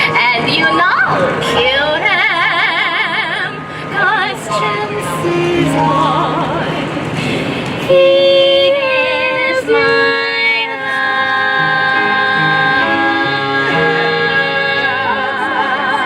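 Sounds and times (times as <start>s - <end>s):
woman singing with vibrato: 0.0s - 16.0s.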